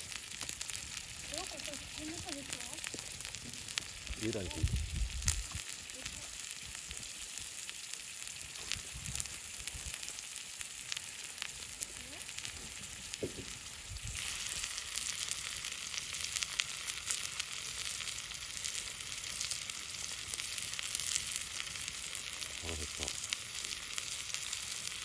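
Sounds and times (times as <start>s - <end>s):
food sizzling on a barbecue: 0.0s - 25.0s.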